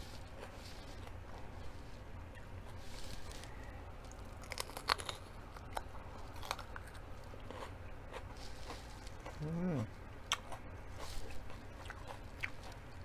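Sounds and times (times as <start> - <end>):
crunching and chewing pepper: 0.0 - 13.0.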